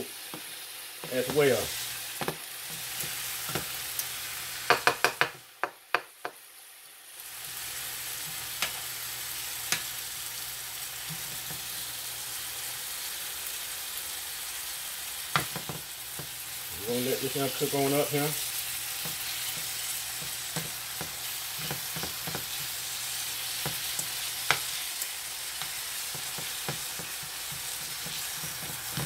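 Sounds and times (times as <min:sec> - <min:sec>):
chicken and onions sizzling in pan: 0:00.0 - 0:29.0.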